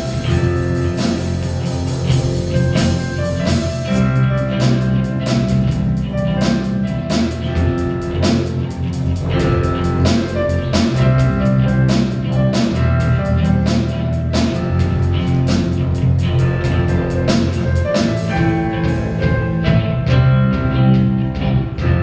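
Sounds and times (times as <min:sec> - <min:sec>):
bass guitar: 0:00.0 - 0:22.0
drum kit beat: 0:00.0 - 0:22.0
electric guitar: 0:00.0 - 0:22.0
keyboard: 0:00.0 - 0:22.0.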